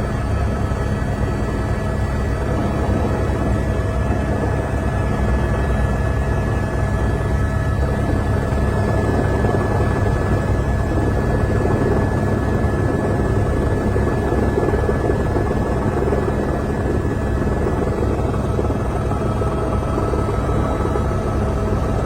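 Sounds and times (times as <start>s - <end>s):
helicopter rotor thrumming: 0.0s - 22.0s
high turbine whine: 0.0s - 22.0s.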